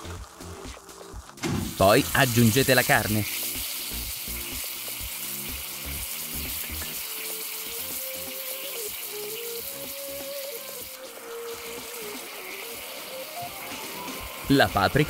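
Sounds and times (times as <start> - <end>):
light background music: 0.0 - 15.0
meat sizzling in a frying pan: 0.0 - 15.0.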